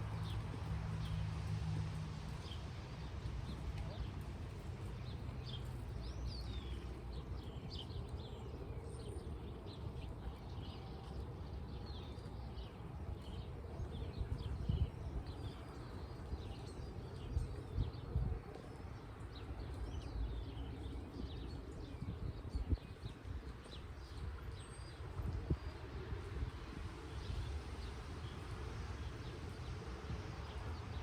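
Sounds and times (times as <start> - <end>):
wind rumble on microphone: 0.0 - 31.0
small birds chirping: 2.3 - 31.0.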